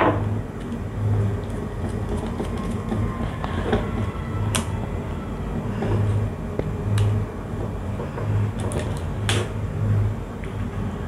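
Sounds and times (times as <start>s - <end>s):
low pulsing hum: 0.0s - 11.0s.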